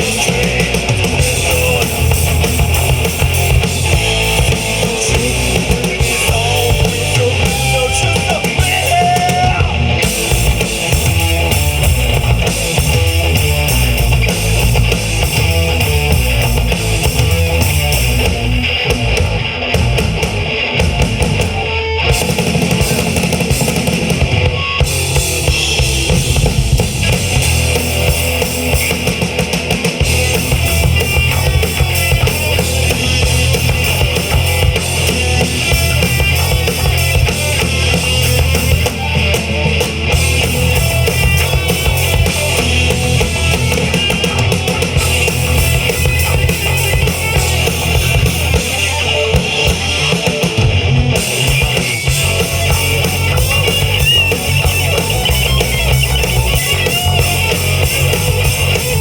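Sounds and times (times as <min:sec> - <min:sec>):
bass drum: 0:00.0 - 0:59.0
bass guitar: 0:00.0 - 0:59.0
distorted electric guitars: 0:00.0 - 0:59.0.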